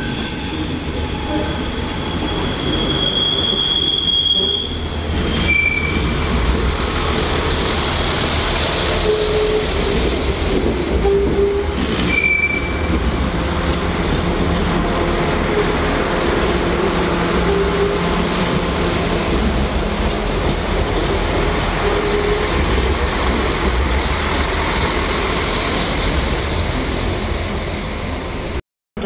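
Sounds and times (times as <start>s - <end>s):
train rumbling: 0.0s - 28.6s.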